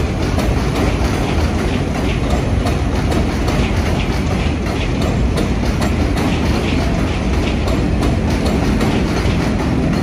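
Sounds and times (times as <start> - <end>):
steel wheels clattering over rail joints: 0.0 - 10.0
subway train rumbling: 0.0 - 10.0.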